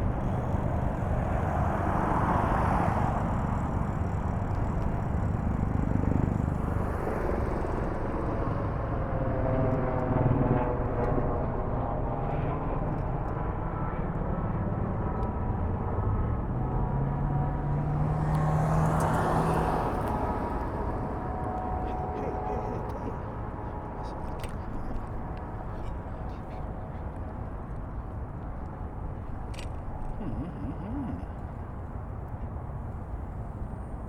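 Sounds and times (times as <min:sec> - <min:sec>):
engine and traffic noise: 0:00.0 - 0:34.0.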